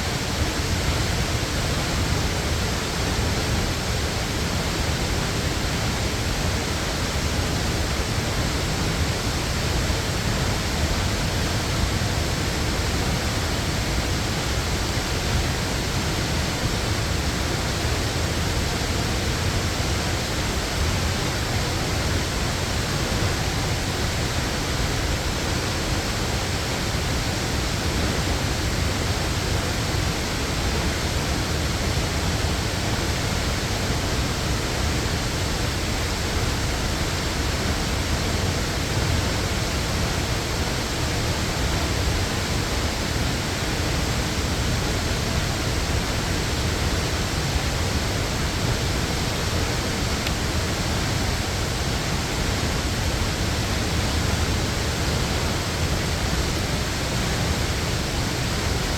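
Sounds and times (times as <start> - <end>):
waterfall rushing: 0.1 - 58.9.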